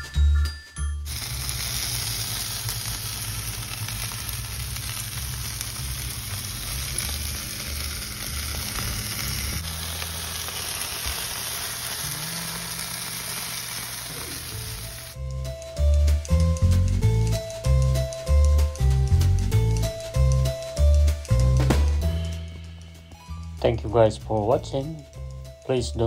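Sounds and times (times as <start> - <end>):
skewers sizzling on grill: 1.1 - 22.1.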